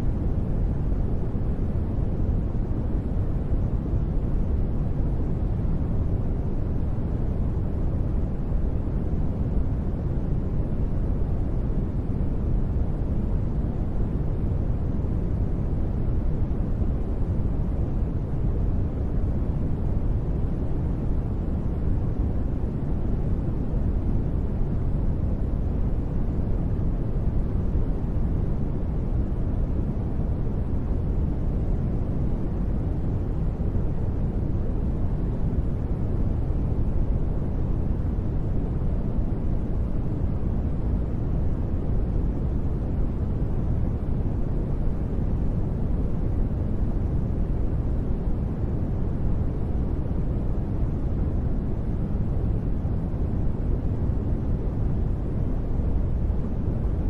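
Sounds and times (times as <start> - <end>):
deep steady noise hush: 0.0 - 57.0.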